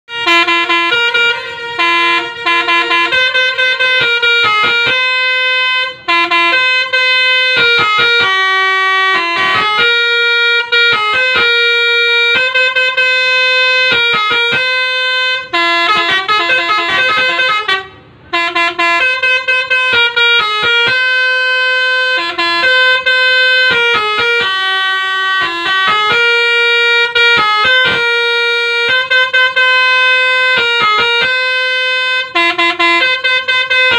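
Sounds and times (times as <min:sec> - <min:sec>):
melodica playing a melody: 0:00.1 - 0:33.9.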